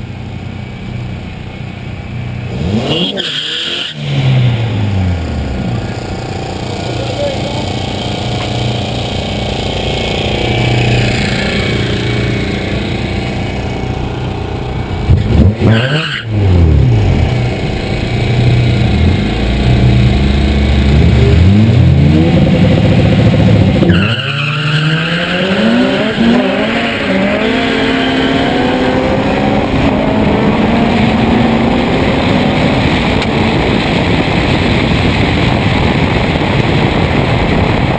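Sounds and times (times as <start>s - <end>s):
drag car engine revving: 2.2s - 37.9s.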